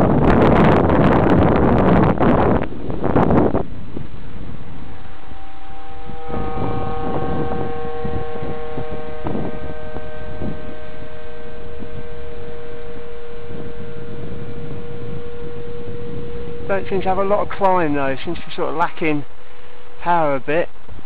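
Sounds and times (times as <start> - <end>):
model aircraft motor hum: 0.0 - 20.1
wind rumble on microphone: 0.0 - 21.0.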